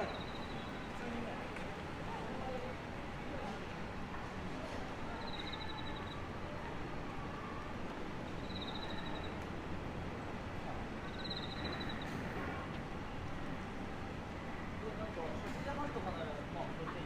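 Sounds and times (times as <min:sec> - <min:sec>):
street ambience: 0:00.0 - 0:17.0.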